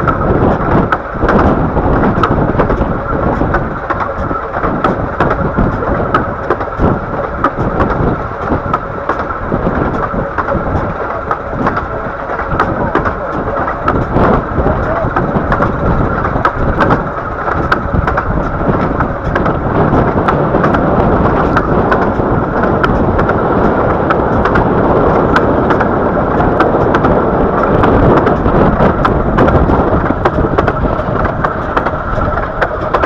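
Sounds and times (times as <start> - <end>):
train rumble: 0.0 - 33.0
wheels clicking over rails: 0.0 - 33.0.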